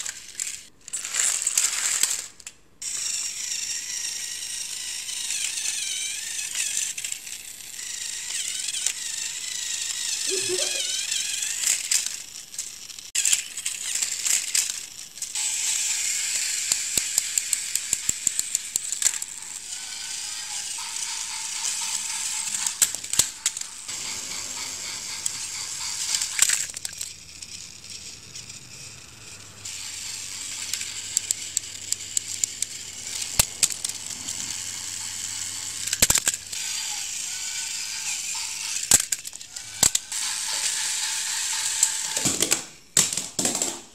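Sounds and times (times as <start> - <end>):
plastic toys clacking together: 0.0 - 24.0, 24.6 - 28.7, 29.6 - 43.9
toy train motors whirring: 0.0 - 43.7
plastic gears rattling: 0.0 - 43.8.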